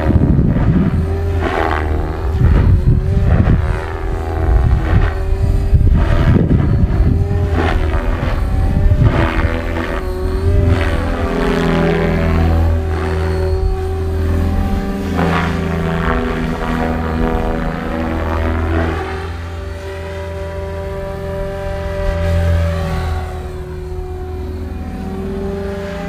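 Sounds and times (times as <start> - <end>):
rc helicopter rotor whine: 0.0 - 26.0
rotor blade whooshing: 0.0 - 26.0.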